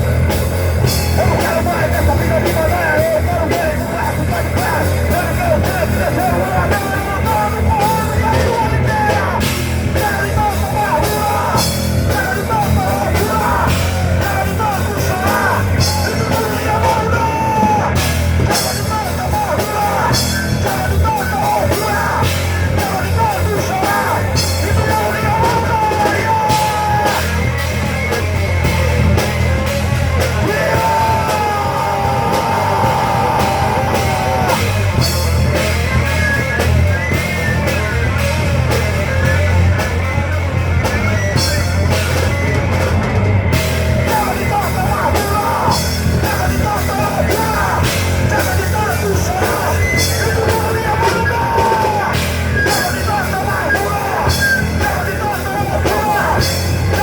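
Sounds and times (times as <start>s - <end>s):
rock band playing: 0.0s - 57.0s
singer yelling vocals: 0.0s - 57.0s.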